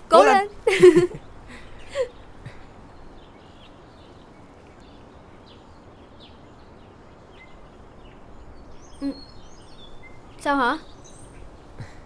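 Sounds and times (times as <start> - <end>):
low background hiss: 0.0 - 12.0
faint bird chirps: 1.2 - 12.0.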